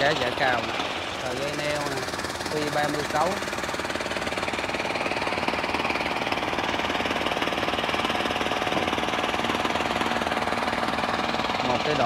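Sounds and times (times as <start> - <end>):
engine running with knocking: 0.0 - 12.0.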